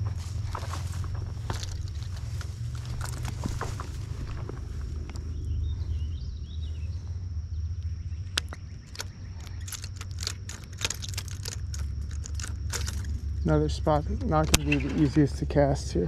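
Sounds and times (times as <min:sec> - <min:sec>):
clicks and rustles of leaves: 0:00.0 - 0:06.0, 0:08.3 - 0:16.0
bird chirping: 0:00.0 - 0:16.0
wind rumbling on microphone: 0:00.0 - 0:16.0.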